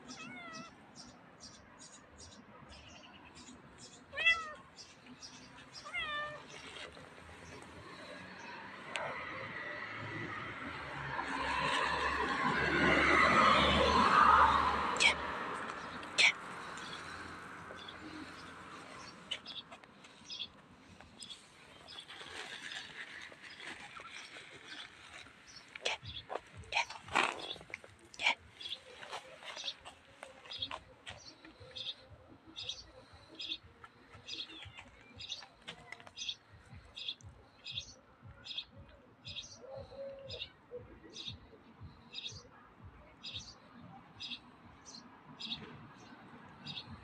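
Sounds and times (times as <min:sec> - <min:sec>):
small birds chirping: 0:00.0 - 0:10.8, 0:15.0 - 0:47.0.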